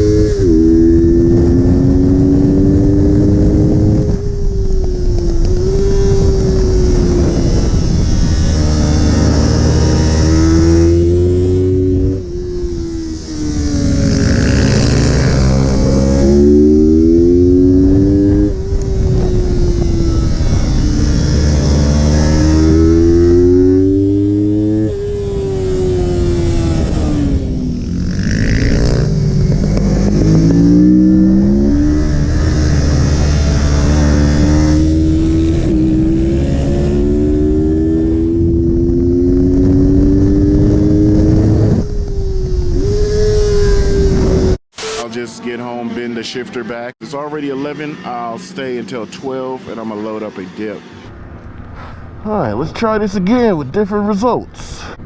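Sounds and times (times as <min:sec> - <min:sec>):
motorcycle engine revving: 0:00.0 - 0:52.5.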